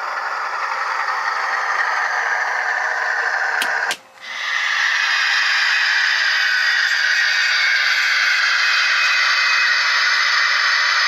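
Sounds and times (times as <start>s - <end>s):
diesel engine sound from small speaker: 0.0s - 11.0s.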